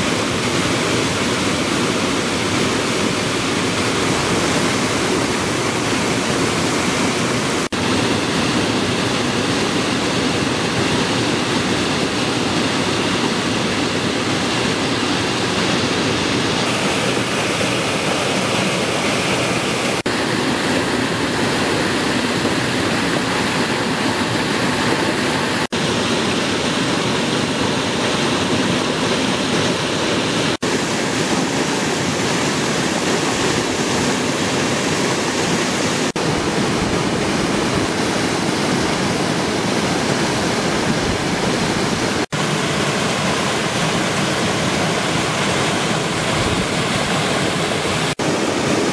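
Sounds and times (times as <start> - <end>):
floodwater rushing over drop: 0.0 - 48.9.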